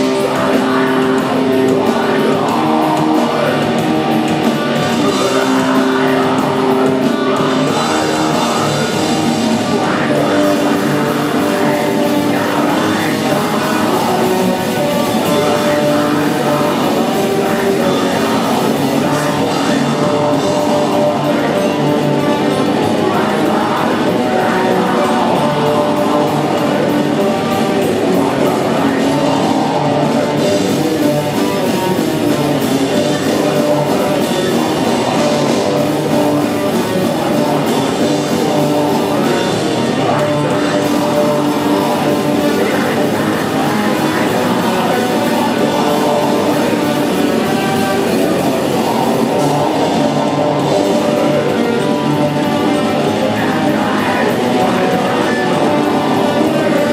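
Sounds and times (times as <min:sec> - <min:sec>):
rock band playing live: 0:00.0 - 0:56.9.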